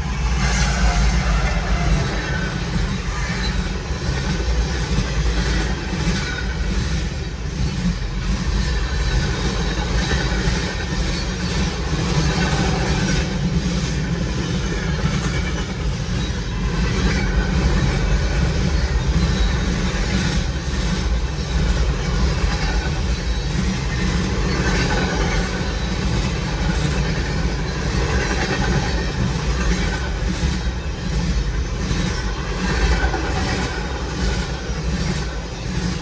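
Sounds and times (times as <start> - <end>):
freight train wheels on rails: 0.0 - 36.0.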